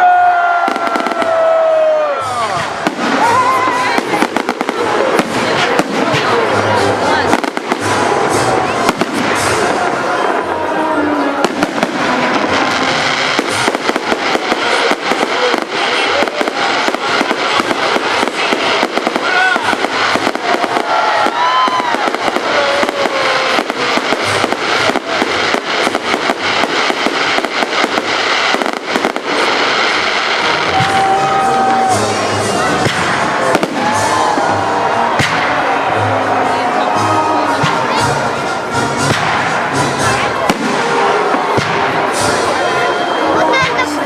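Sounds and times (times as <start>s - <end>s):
fireworks bangs and crackling: 0.0s - 44.0s
music: 0.6s - 44.0s
voices: 2.1s - 44.0s.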